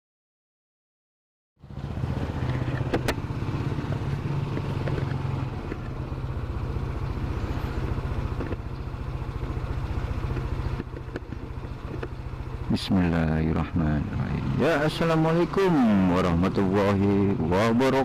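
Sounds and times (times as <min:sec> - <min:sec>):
road and wind noise: 0:01.6 - 0:18.0
scooter engine running: 0:01.6 - 0:18.0.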